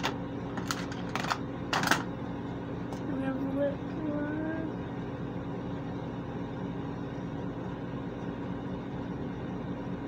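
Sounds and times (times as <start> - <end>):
ventilation fan humming: 0.0 - 10.0.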